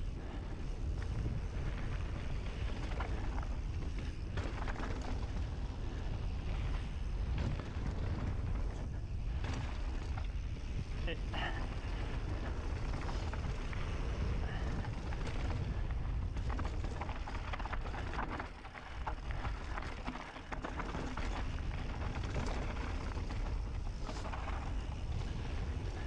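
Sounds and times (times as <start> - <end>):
mountain bike on dirt trail: 0.0 - 26.0
wind buffeting microphone: 0.0 - 26.0
sharp clicks and knocks from bike: 0.2 - 10.9, 11.7 - 26.0.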